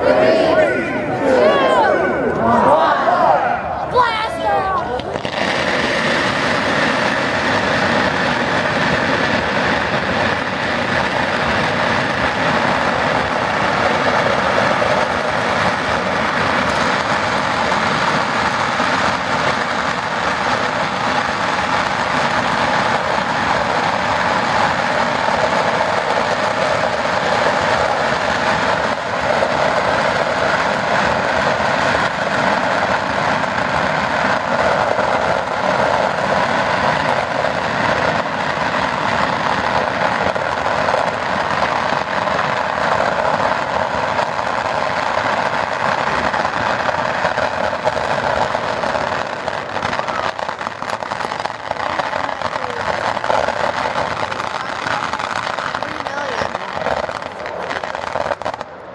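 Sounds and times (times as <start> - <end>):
ground fireworks hissing and crackling: 0.0 - 58.9.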